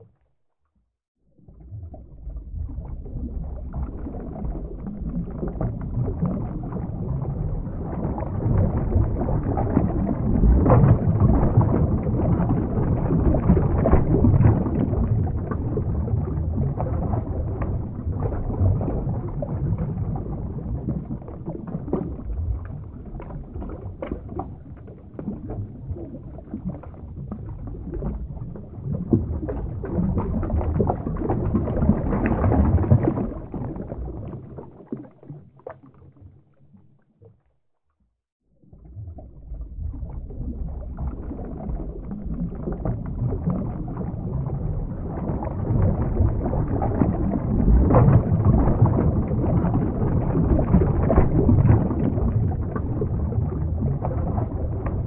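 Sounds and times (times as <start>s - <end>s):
underwater rushing and sloshing water: 0.0s - 37.9s, 38.5s - 55.0s
deep underwater rumble: 0.0s - 55.0s.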